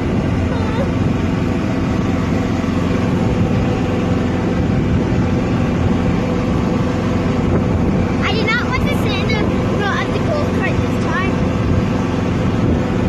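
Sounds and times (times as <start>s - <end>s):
golf cart driving: 0.0s - 13.0s.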